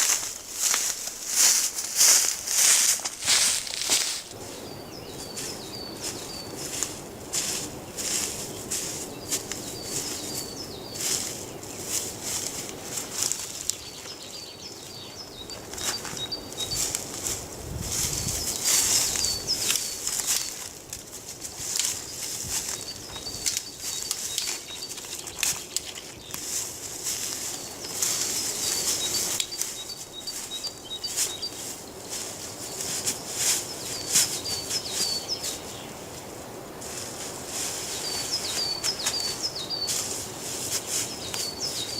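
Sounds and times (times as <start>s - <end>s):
rustling: 0.0s - 4.4s, 5.2s - 14.2s, 15.6s - 41.9s
steady high hiss: 0.0s - 41.9s
small bird chirping: 0.6s - 6.8s, 7.9s - 12.4s, 13.1s - 17.1s, 18.1s - 20.7s, 21.9s - 26.6s, 27.2s - 36.0s, 37.9s - 40.1s, 40.8s - 41.9s.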